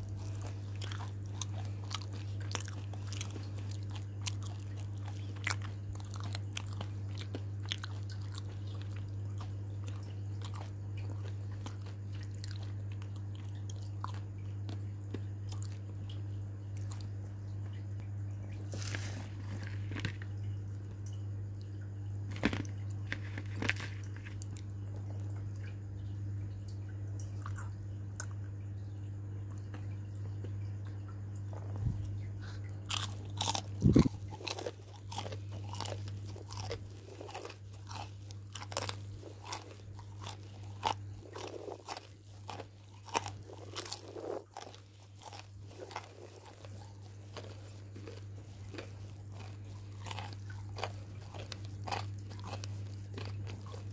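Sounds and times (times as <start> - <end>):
crunching and chewing fried chicken: 0.0 - 53.9
steady low hum: 0.0 - 53.9.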